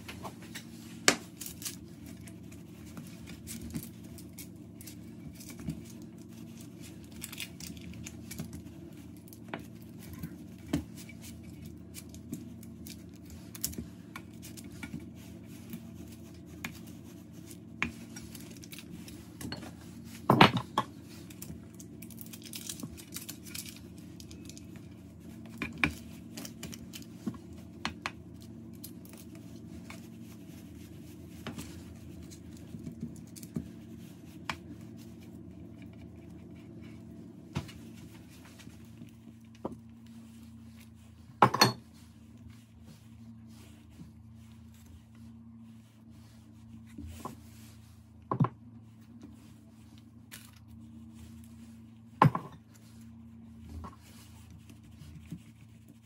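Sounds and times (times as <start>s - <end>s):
steady low hum: 0.0s - 56.0s
parchment paper rustling: 0.1s - 48.0s, 48.8s - 56.0s.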